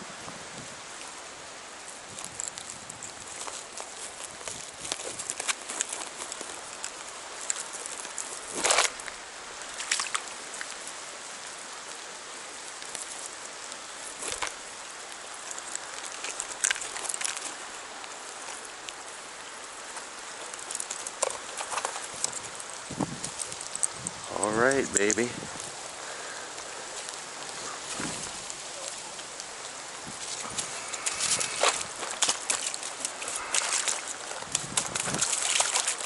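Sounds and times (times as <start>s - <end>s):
river water rushing: 0.8s - 36.0s.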